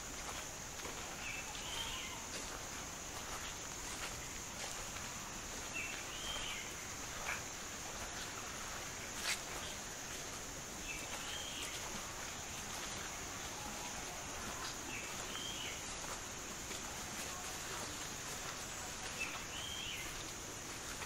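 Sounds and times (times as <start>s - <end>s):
footsteps on path: 0.0s - 21.0s.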